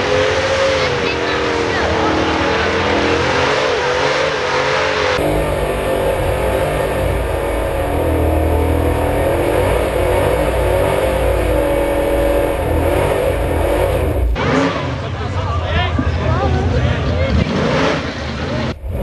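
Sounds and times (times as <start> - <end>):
car engine idling loudly: 0.0 - 17.4.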